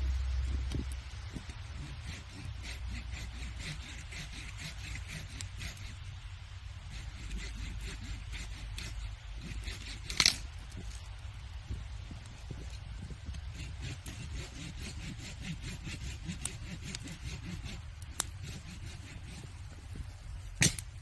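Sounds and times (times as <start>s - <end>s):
firewood crackling: 0.0s - 21.0s
low fire rumble: 0.0s - 21.0s.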